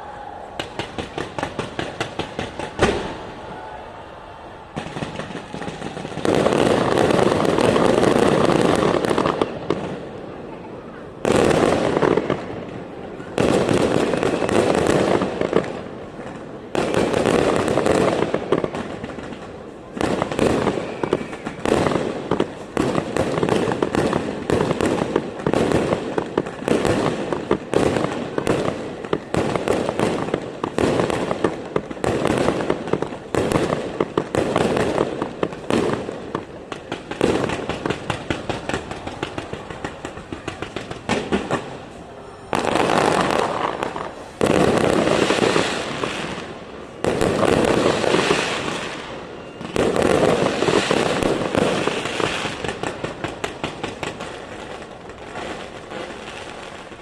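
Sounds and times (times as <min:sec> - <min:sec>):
fireworks banging: 0:00.6 - 0:03.3, 0:04.7 - 0:10.3, 0:11.1 - 0:57.0.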